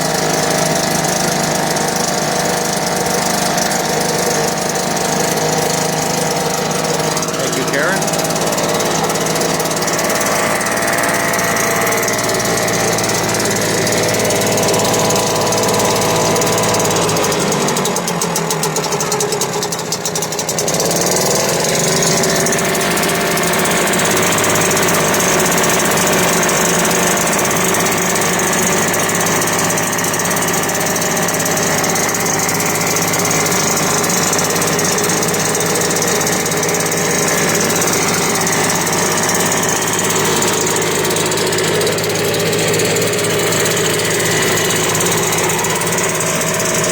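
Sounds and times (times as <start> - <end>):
outboard motor running: 0.0 - 46.9.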